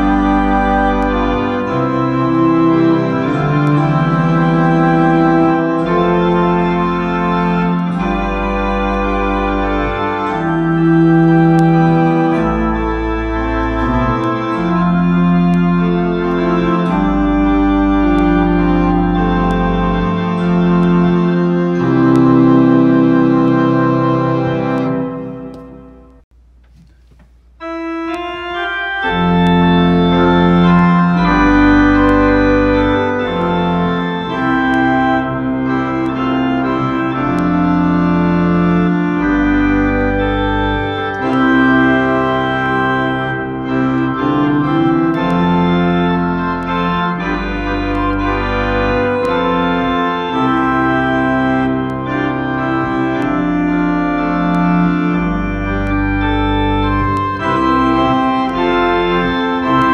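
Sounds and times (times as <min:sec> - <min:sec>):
electronic organ playing hymn: 0:00.0 - 0:59.9.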